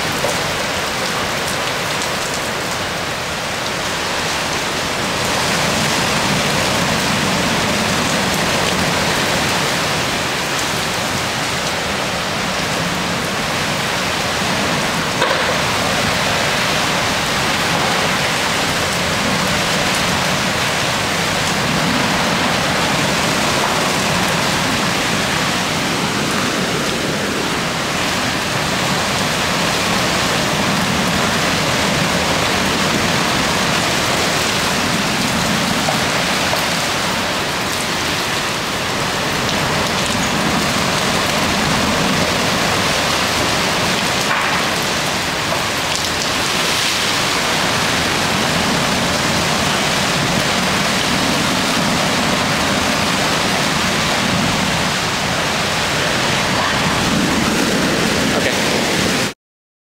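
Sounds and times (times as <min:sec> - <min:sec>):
heavy rain and wind: 0:00.0 - 0:59.4.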